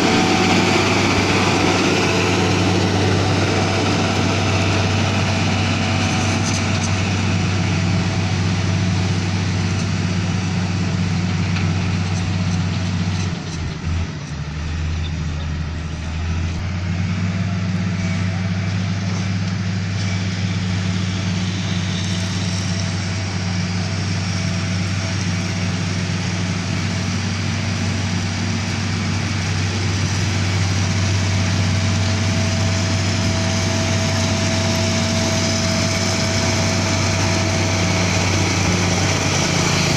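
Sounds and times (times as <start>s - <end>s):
diesel engine running under work: 0.0s - 39.9s.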